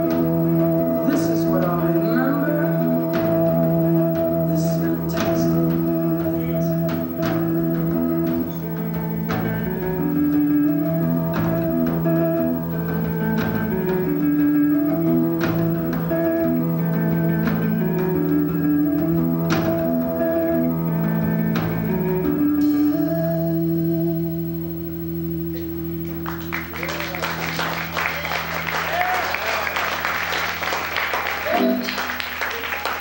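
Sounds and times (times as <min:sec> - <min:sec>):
electric guitar melody: 0:00.0 - 0:33.0
live rock band playing: 0:00.0 - 0:33.0.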